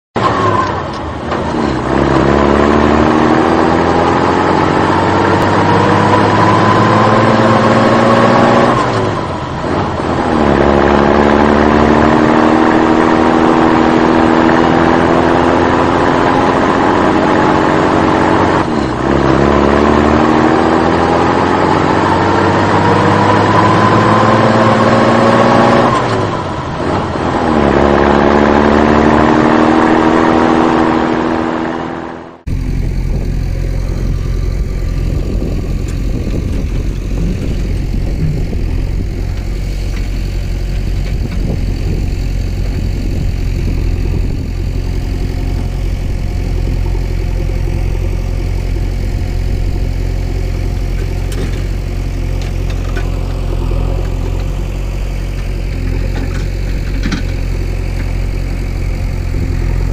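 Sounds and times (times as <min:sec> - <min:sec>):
vehicle engine accelerating: 0:00.2 - 0:59.9.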